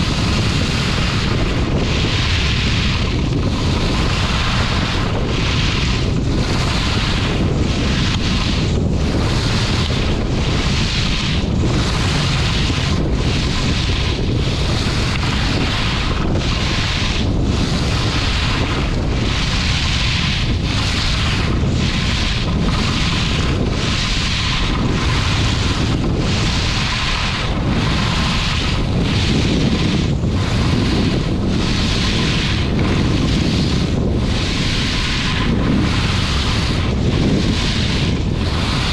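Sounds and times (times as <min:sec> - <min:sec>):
skis carving snow: 0:00.0 - 0:38.9
wind on microphone: 0:00.0 - 0:38.9.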